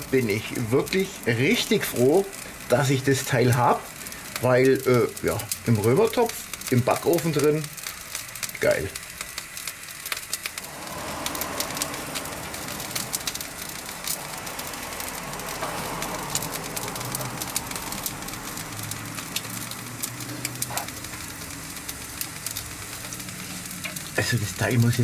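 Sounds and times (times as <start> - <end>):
meat sizzling on a grill: 0.0 - 25.0.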